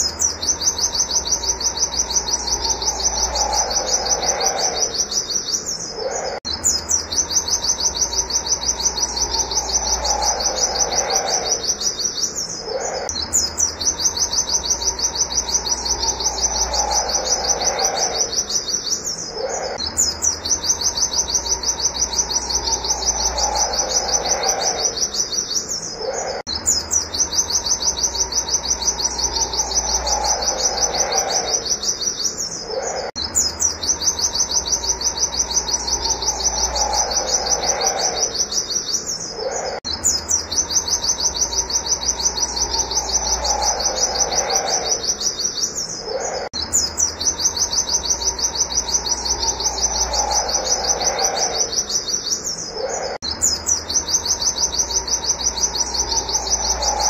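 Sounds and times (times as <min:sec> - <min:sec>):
bird singing fast repeated high notes: 0:00.0 - 0:57.0
lower falling bird call: 0:00.0 - 0:57.0.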